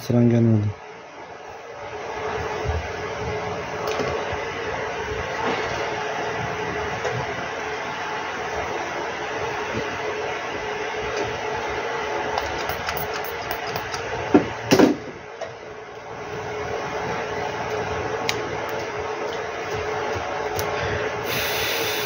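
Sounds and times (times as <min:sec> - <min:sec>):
electric fan motor humming: 0:00.0 - 0:22.0.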